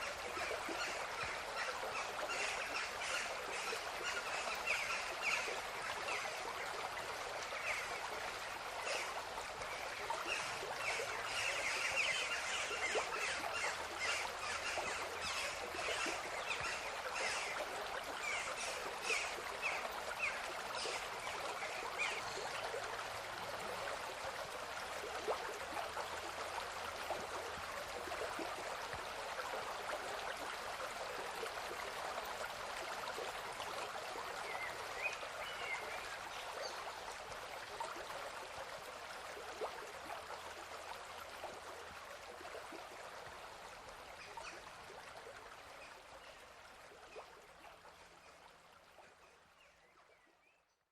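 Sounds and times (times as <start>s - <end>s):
stream water rushing: 0.0s - 49.6s.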